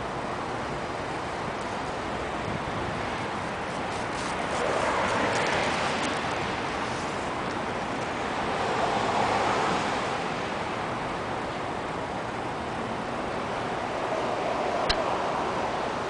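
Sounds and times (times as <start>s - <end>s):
wind blowing in gusts: 0.0s - 16.0s.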